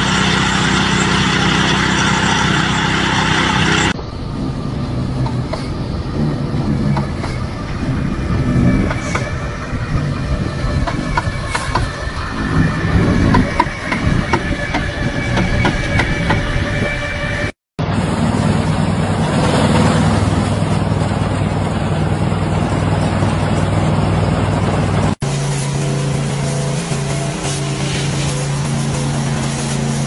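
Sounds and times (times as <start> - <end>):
low hum: 0.0 - 30.0
motorised tricycle humming: 0.0 - 30.0
straw blower rushing: 0.0 - 30.0.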